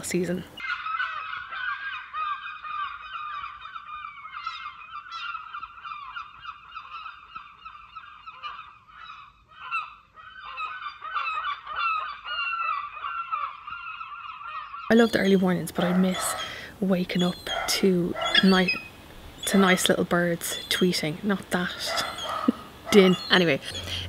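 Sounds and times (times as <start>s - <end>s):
seagulls crying: 0.0s - 24.0s.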